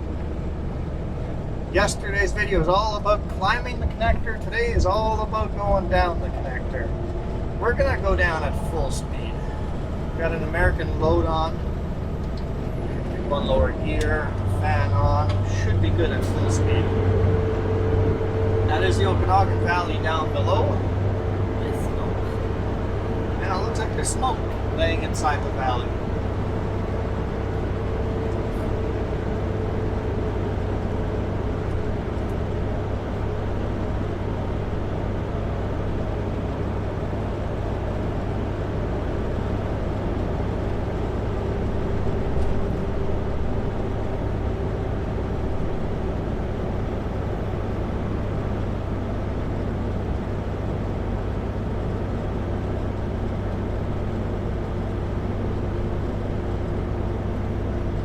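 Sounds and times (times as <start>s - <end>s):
diesel truck engine braking: 0.0s - 58.0s.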